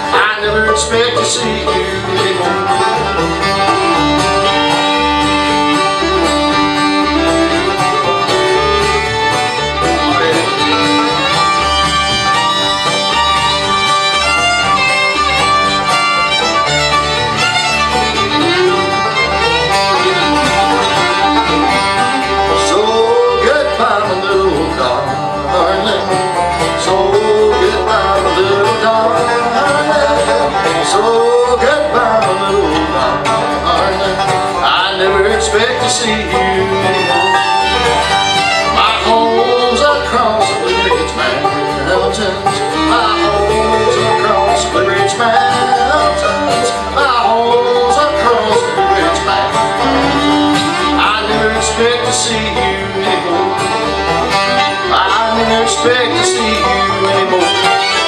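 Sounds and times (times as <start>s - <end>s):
acoustic guitar: 0.0s - 58.0s
banjo: 0.0s - 58.0s
fiddle: 0.0s - 58.0s
upright bass: 0.0s - 58.0s.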